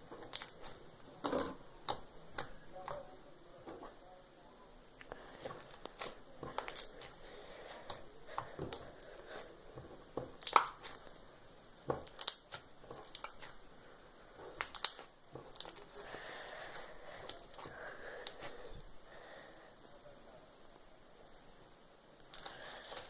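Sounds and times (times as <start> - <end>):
slime squished crackling: 0.0 - 4.0, 5.0 - 20.0.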